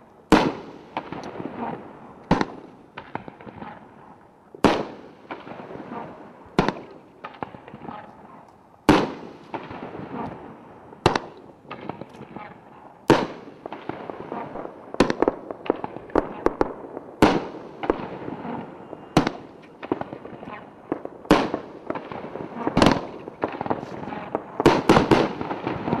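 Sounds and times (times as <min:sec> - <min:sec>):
fireworks booming: 0:00.0 - 0:26.0
firework pops and crackles: 0:00.3 - 0:26.0.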